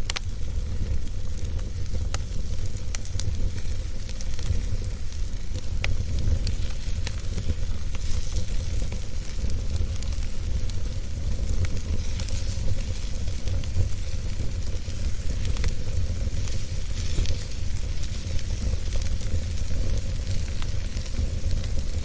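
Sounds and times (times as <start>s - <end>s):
fire crackles and pops: 0.0s - 22.0s
wood fire rumbling and hissing: 0.0s - 22.0s.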